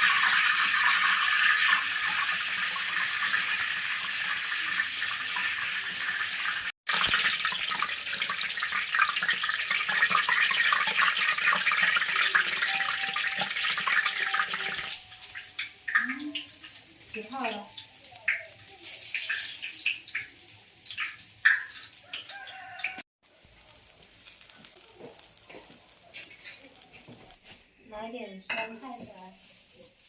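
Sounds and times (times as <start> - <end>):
meat deep-frying in oil: 0.0 - 27.8.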